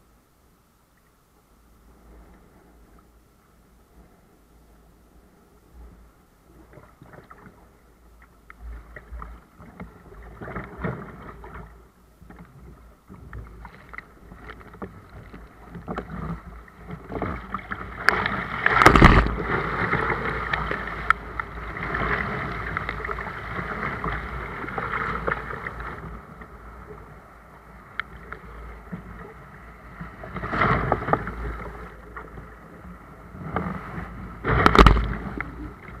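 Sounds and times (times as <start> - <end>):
water splashing against kayak: 6.5 - 36.0.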